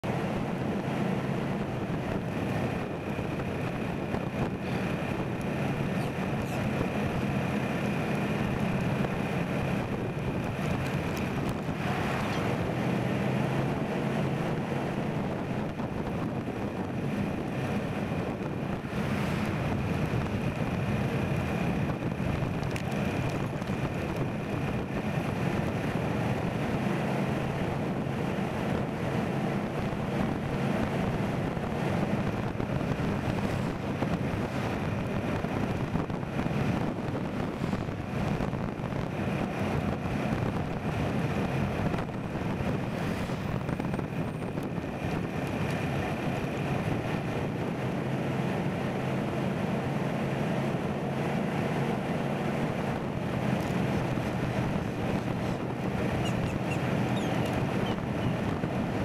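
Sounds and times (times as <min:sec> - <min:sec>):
vehicle road noise: 0:00.0 - 0:59.0
wind rush on microphone: 0:00.0 - 0:59.0.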